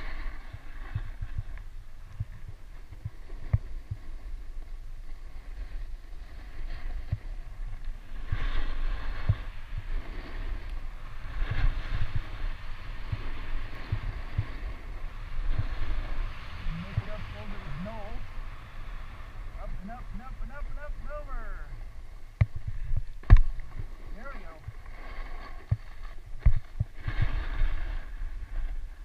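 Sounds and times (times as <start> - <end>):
skis hissing over snow: 0.0 - 1.4, 2.7 - 22.2, 23.6 - 29.0
wind buffeting microphone: 0.0 - 29.0.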